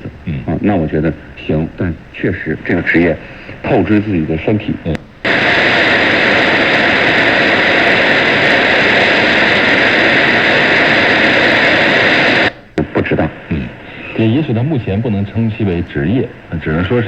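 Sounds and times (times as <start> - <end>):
shortwave radio static hiss: 0.0 - 17.0.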